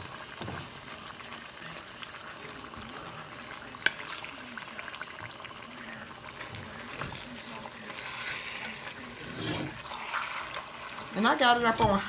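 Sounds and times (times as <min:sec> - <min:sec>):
curry sizzling in a pot: 0:00.0 - 0:12.0.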